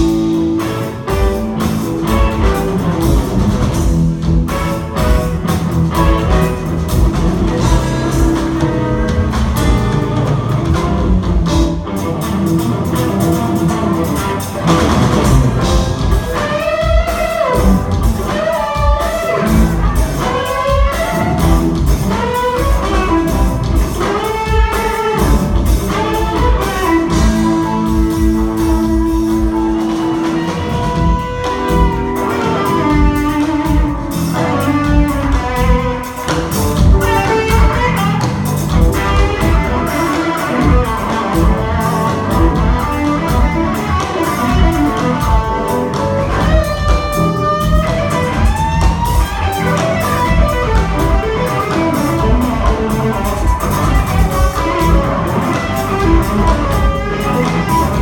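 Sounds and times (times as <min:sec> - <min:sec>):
lead guitar bending notes: 0:00.0 - 0:58.0
rock band playing: 0:00.0 - 0:58.0.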